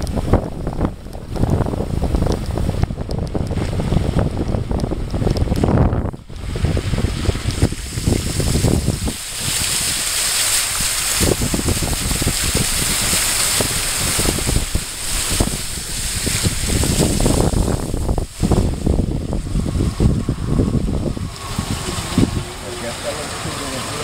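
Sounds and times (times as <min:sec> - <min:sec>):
car wheels spraying floodwater: 0:00.0 - 0:24.0
wind buffeting microphone: 0:00.0 - 0:24.0.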